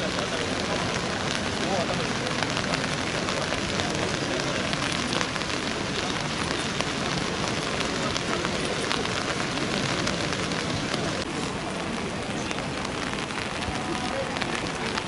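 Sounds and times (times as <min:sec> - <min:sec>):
rain on hard surfaces: 0:00.0 - 0:15.0.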